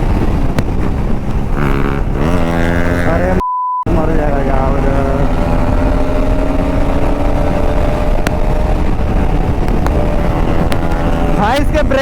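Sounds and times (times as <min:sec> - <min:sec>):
motorcycle engine accelerating: 0:00.0 - 0:12.0
wind rush on microphone: 0:00.0 - 0:12.0.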